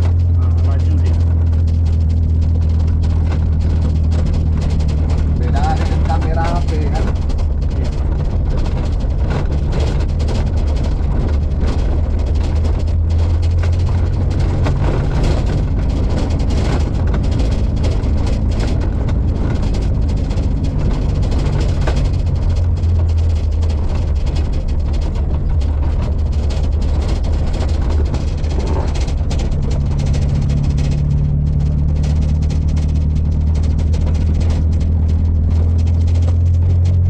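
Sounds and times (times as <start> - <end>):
car body knocks and rattles: 0.0 - 37.0
car engine droning: 0.0 - 37.0.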